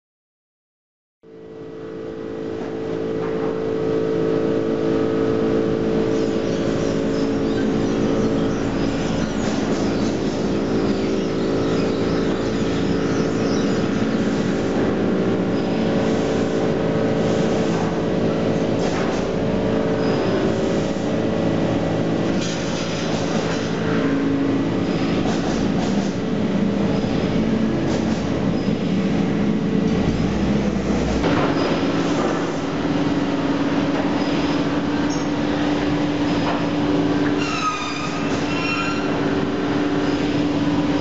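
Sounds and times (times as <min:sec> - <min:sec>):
sawmill machinery drone: 0:01.3 - 0:41.0
diesel forklift engine: 0:02.4 - 0:41.0.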